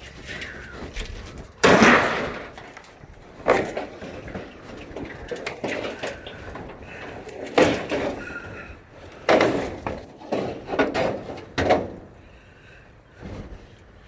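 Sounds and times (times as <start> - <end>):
heavy bangs and clattering impacts: 0.4 - 12.3.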